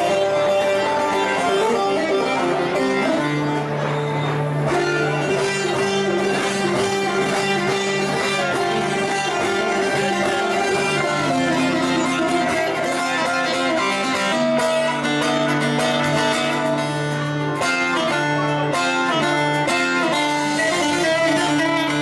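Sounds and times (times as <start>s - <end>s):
keyboard accompaniment: 0.0s - 22.0s
plucked long-necked lute melody: 0.0s - 22.0s.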